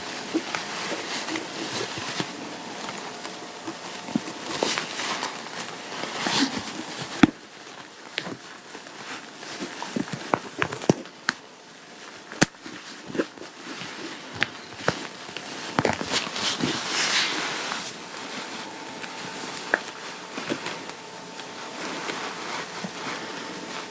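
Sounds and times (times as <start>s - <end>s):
fabric rustling: 0.0s - 10.8s, 11.6s - 23.9s.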